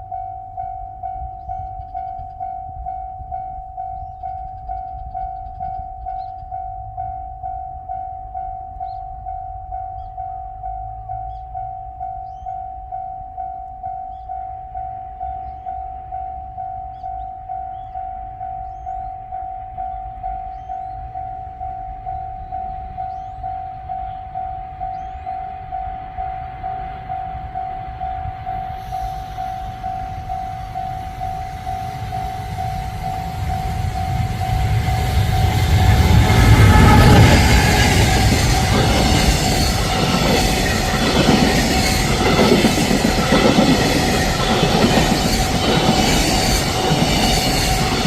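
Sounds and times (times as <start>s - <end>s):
approaching train rumble: 0.0s - 48.0s
level-crossing warning bell: 0.0s - 48.0s.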